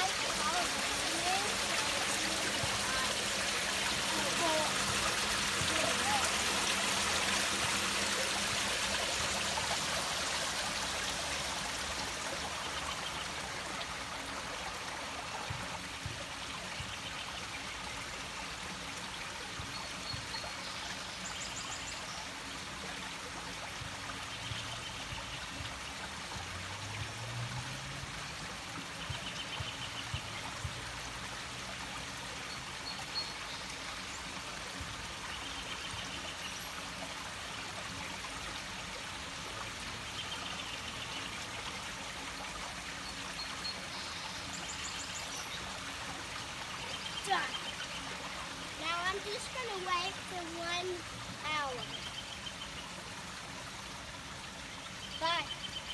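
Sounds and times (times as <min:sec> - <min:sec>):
creek water running: 0:00.0 - 0:55.9
pipe outlet small waterfall: 0:00.0 - 0:55.9.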